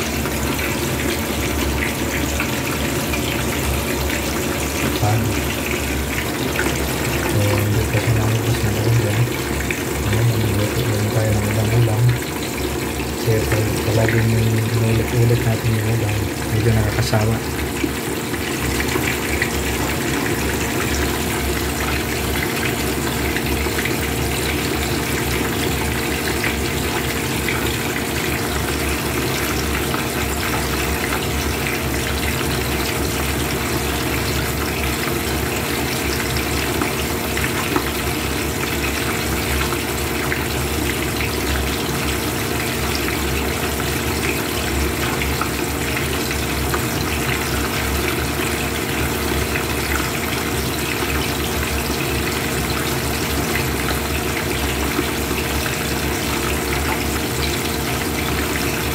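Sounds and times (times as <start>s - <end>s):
fish sizzling in hot oil: 0.0s - 7.4s, 11.9s - 14.6s, 17.2s - 58.9s.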